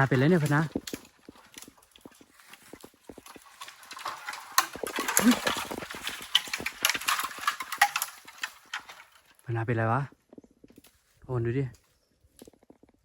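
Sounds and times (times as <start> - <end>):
dry leaves and twigs rustling: 0.0 - 13.0.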